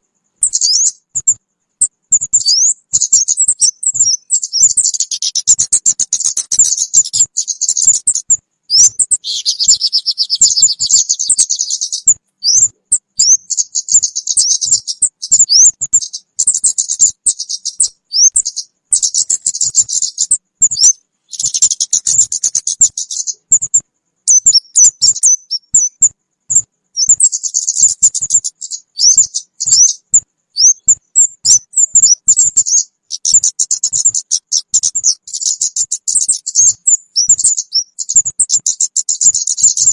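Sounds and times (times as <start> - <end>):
bird calls chirps and trills: 0.0 - 39.9.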